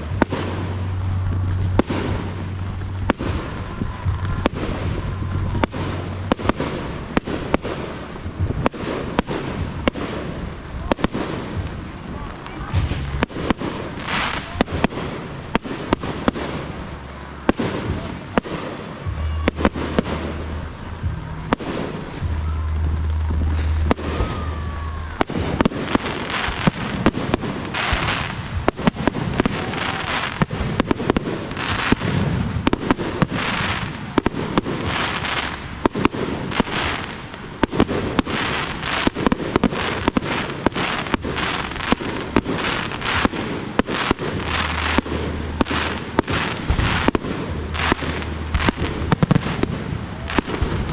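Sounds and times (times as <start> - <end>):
crackling firework glitter: 0.0 - 50.9.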